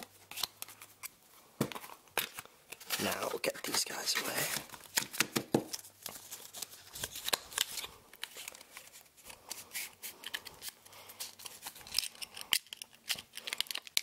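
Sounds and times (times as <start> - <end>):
playing cards rustling and tapping: 0.0 - 14.0.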